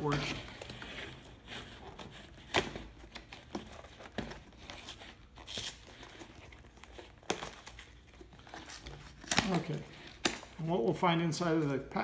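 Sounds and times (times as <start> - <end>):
cardboard tearing: 0.0 - 10.7
cardboard crinkling: 0.0 - 12.0.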